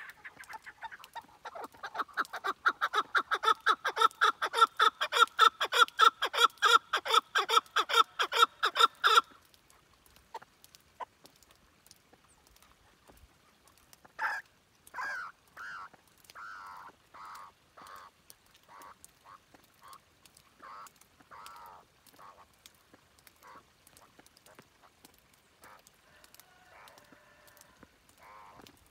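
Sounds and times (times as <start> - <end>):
partridge clucking calls: 0.0 - 11.5, 12.3 - 27.6.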